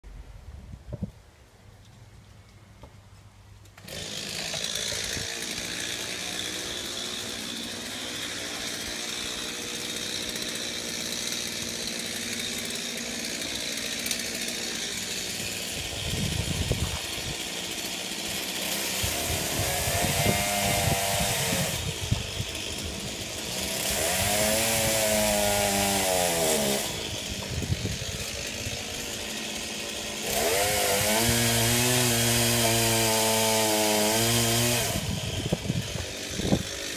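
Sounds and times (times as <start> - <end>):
chainsaw revving: 3.8 - 36.9.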